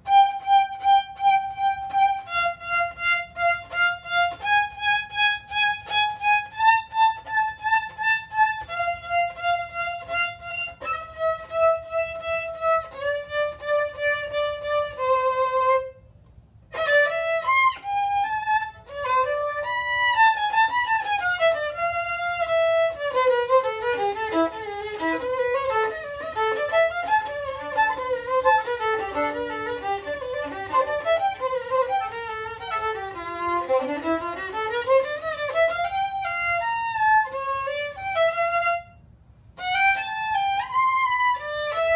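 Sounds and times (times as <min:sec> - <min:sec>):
solo violin playing: 0:00.0 - 0:41.9.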